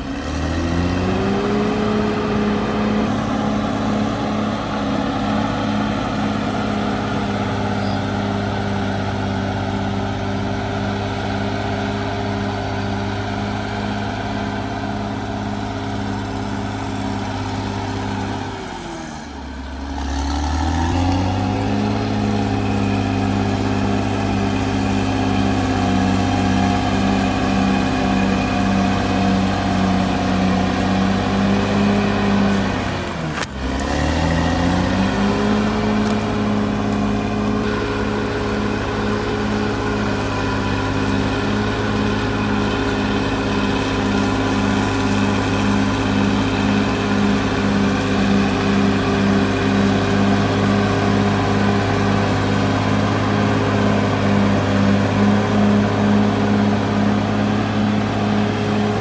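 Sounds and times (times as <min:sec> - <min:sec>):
bulldozer diesel engine revving: 0:00.0 - 0:59.0.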